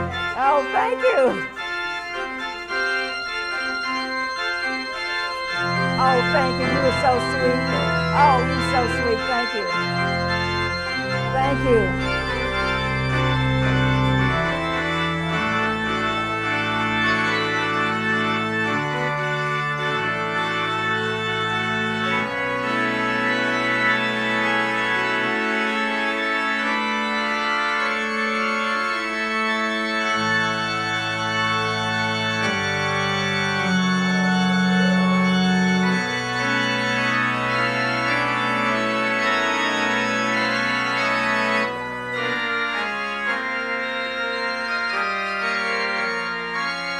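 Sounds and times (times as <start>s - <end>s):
church organ playing chords: 0.0s - 46.9s.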